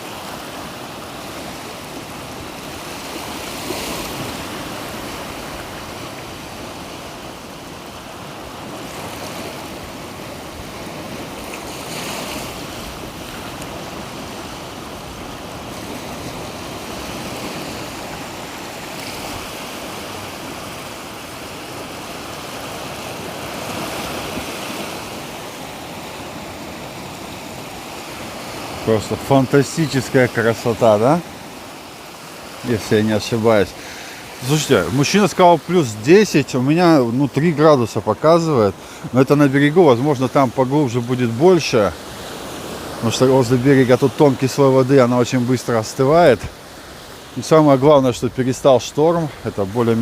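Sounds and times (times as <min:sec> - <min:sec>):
surf waves breaking on shore: 0:00.0 - 0:50.0.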